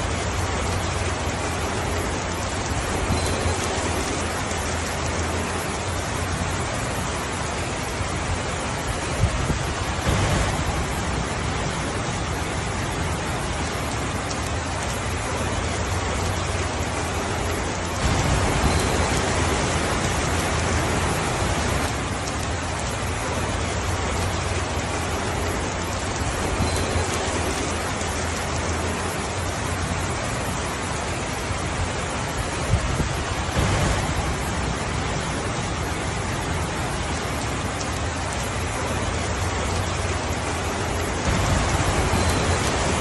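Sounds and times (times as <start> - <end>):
heavy rainfall: 0.0 - 43.0.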